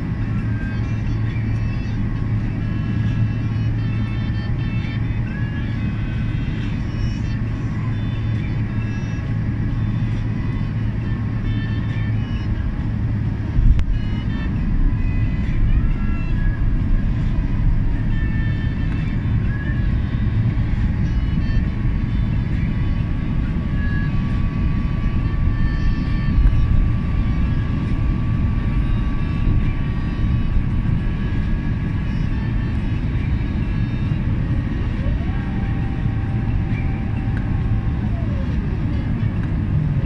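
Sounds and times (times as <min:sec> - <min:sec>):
faint steady whine: 0:00.0 - 0:40.0
rising whine: 0:00.0 - 0:40.0
jet engines and rushing air: 0:07.4 - 0:40.0.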